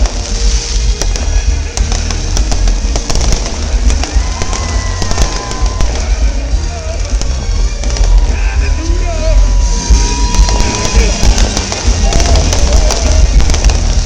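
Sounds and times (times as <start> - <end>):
deep booming: 0.0 - 14.0
fireworks cracking and popping: 0.0 - 14.0
music playing: 0.0 - 14.0.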